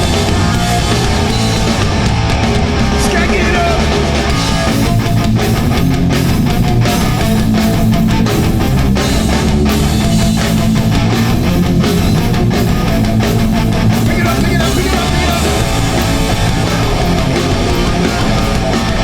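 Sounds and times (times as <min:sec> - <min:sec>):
punk band playing: 0:00.0 - 0:19.0.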